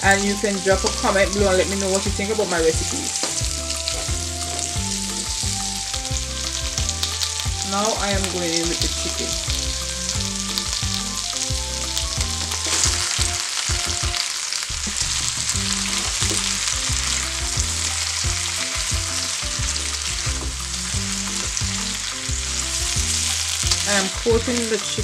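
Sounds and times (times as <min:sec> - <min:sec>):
fried chicken sizzling in a wok: 0:00.0 - 0:25.0.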